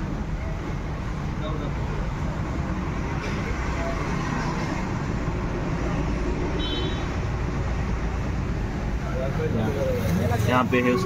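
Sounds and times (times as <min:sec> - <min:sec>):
motor vehicles rumbling: 0:00.0 - 0:11.0.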